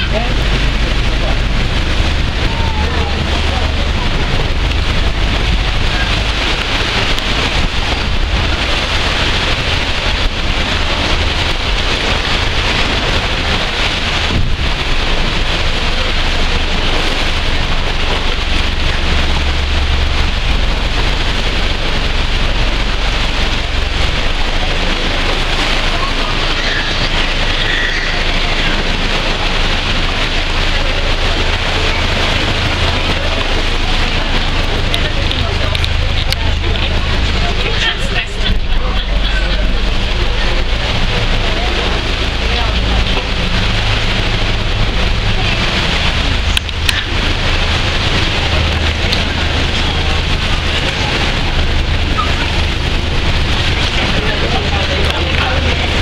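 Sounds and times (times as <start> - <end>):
boat engine running: 0.0 - 56.0
sea water splashing on hull: 0.0 - 56.0.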